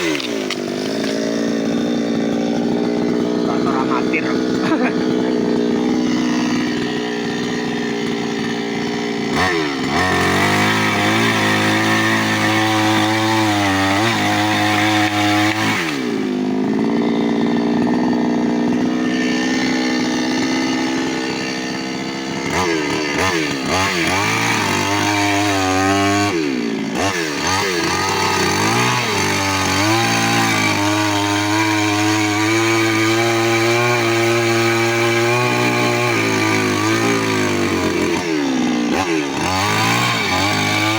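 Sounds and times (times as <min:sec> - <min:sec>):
chainsaw running at high revs: 0:00.0 - 0:40.9.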